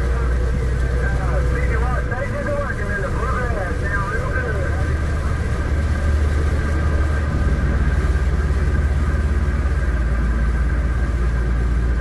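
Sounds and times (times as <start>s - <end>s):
diesel vehicle drone in cab: 0.0s - 12.0s.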